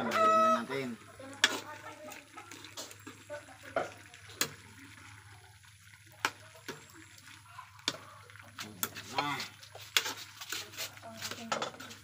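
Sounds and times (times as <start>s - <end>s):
stew sloshing and bubbling: 0.0s - 12.0s.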